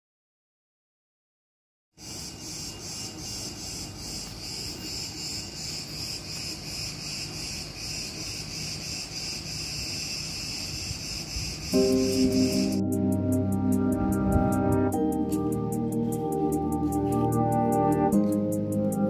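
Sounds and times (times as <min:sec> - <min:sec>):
cicadas chirring: 0:02.0 - 0:19.0.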